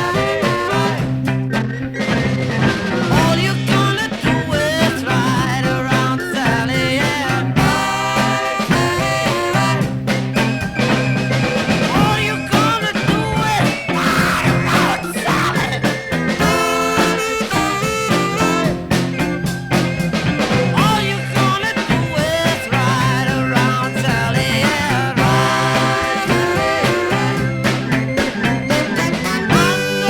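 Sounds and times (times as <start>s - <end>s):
bass guitar: 0.0s - 30.0s
drums: 0.0s - 30.0s
electric guitar: 0.0s - 30.0s
electric organ: 0.0s - 30.0s
saxophone: 0.0s - 30.0s.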